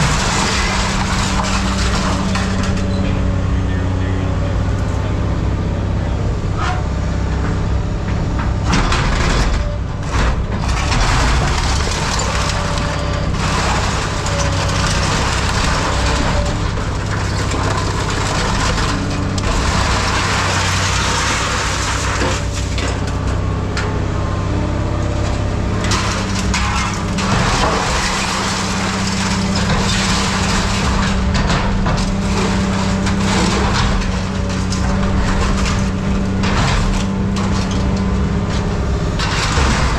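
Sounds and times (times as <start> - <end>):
heavy machine engine running: 0.0 - 39.9
scrap metal crunching and scraping: 0.0 - 39.9.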